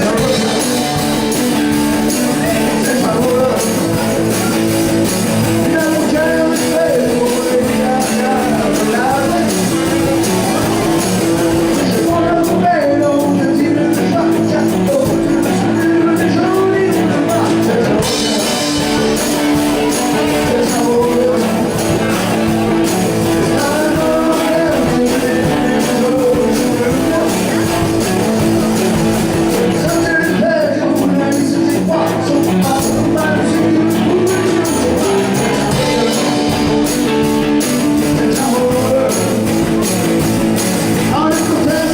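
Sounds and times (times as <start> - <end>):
rock and roll band with singing: 0.0 - 41.9.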